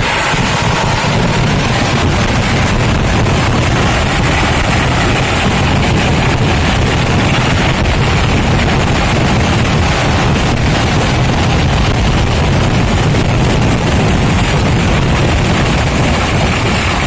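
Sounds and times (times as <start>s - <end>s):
fireworks barrage: 0.0s - 17.0s.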